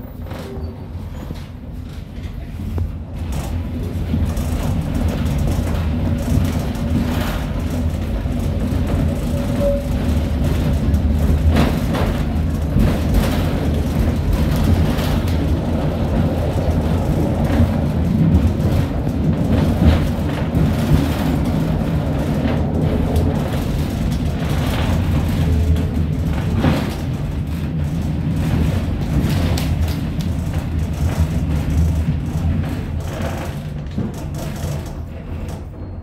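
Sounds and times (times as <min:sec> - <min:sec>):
tram wheels rumbling on rail: 0:00.0 - 0:36.0.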